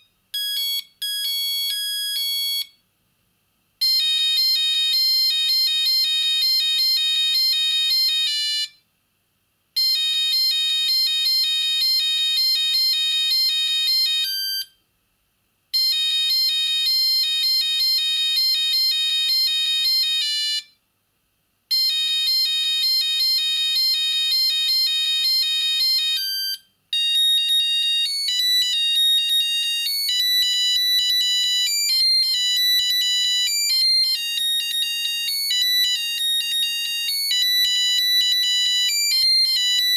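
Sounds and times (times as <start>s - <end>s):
mobile phone monophonic ringtone: 0.0s - 2.7s, 3.8s - 8.8s, 9.8s - 14.8s, 15.8s - 20.7s, 21.7s - 39.9s.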